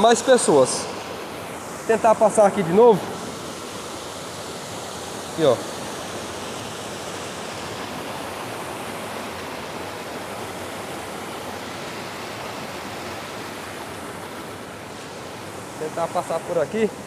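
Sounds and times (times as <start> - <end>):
waterfall rushing past rocks: 0.0 - 17.0.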